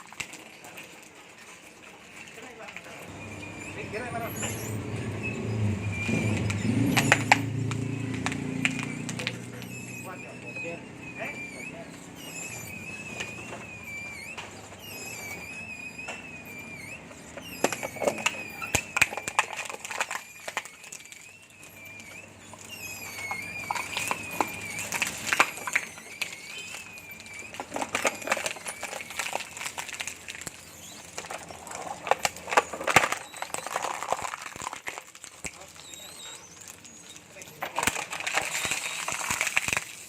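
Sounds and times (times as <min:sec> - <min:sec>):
cracking and snapping waste: 0:00.0 - 0:40.0.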